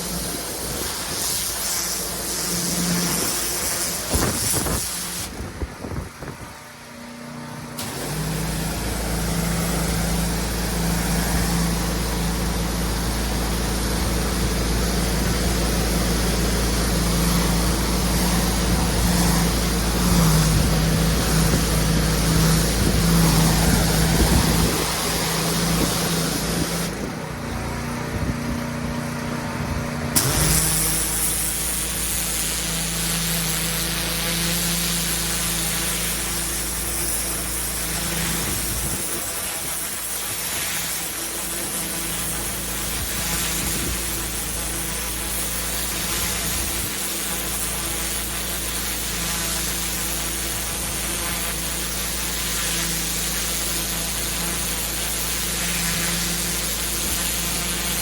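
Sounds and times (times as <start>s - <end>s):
water jet hissing on paving: 0.0s - 5.6s, 7.8s - 27.3s, 30.1s - 58.0s
pressure washer running: 0.0s - 58.0s.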